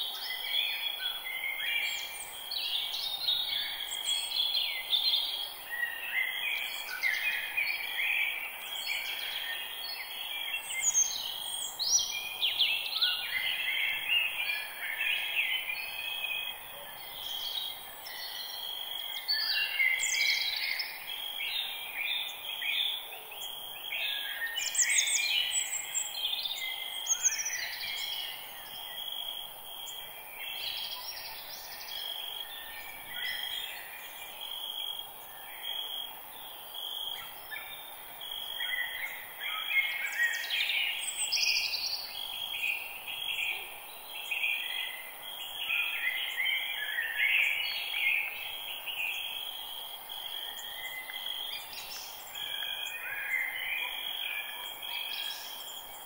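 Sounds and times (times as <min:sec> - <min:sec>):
birds singing and calling: 0:00.0 - 0:56.0.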